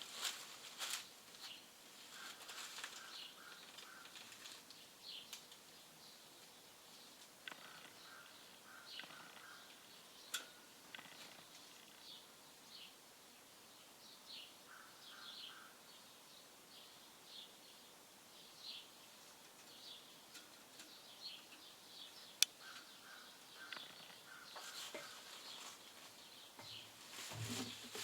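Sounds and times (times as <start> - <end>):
faint bird chirps: 2.0 - 13.0, 13.8 - 27.0.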